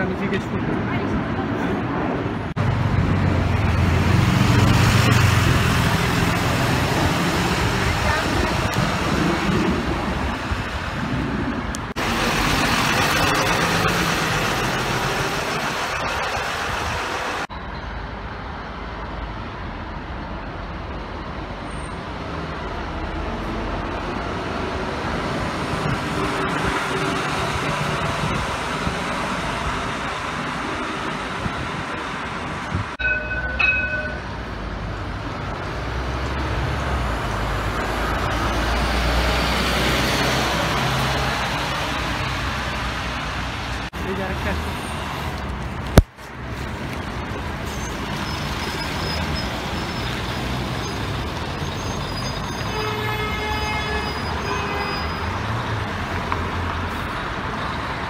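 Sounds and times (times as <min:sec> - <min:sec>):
buses driving past: 0:00.0 - 0:58.0.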